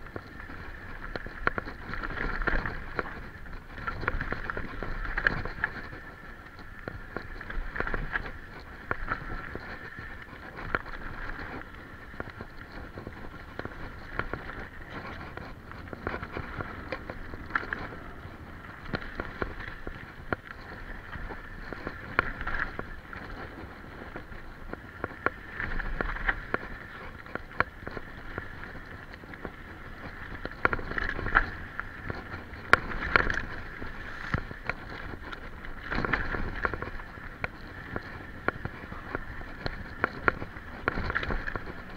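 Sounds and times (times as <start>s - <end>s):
mountain bike rattle and rumble: 0.0s - 41.9s.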